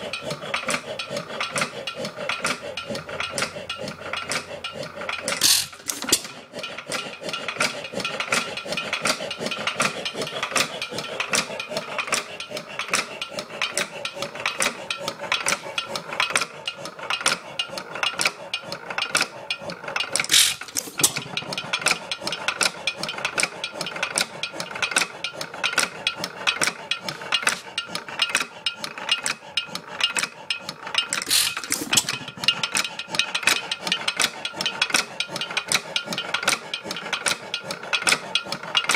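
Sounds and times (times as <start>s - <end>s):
engine mechanism clattering: 0.0s - 38.9s.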